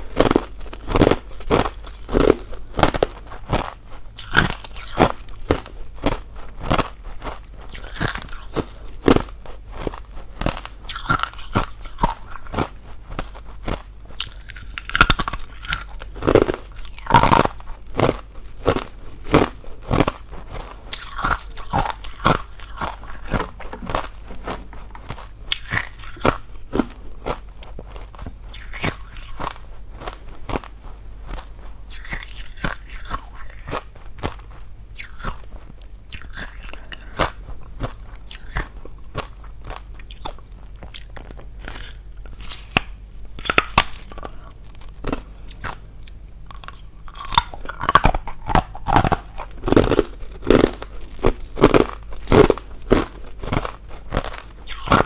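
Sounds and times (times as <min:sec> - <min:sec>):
ice being chewed: 0:00.0 - 0:42.8, 0:43.4 - 0:55.0.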